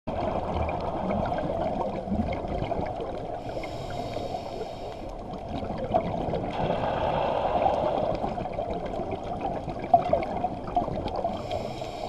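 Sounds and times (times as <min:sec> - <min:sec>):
muffled underwater rushing: 0:00.1 - 0:12.0.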